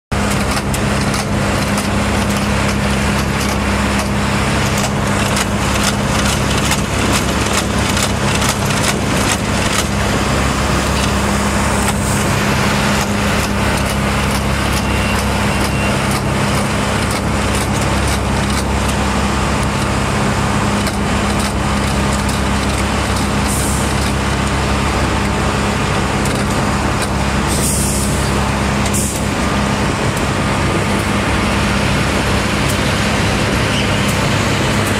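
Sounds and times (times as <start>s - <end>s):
machine engines droning: 0.1s - 34.9s.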